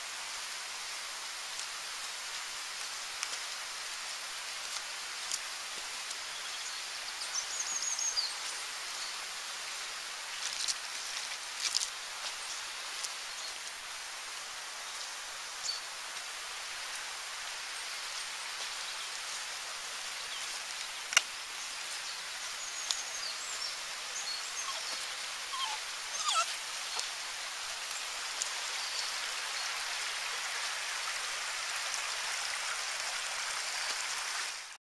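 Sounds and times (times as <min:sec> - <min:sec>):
stream rushing: 0:00.0 - 0:34.8.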